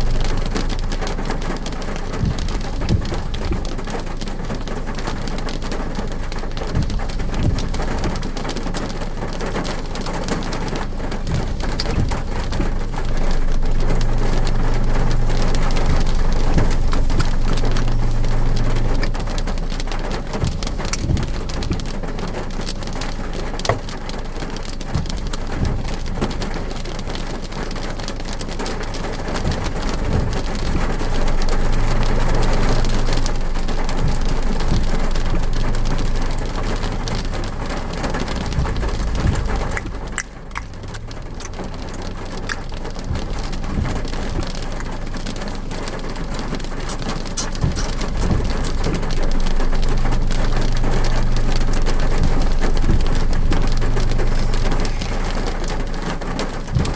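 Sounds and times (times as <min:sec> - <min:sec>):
rain falling on a car: 0:00.0 - 0:56.9.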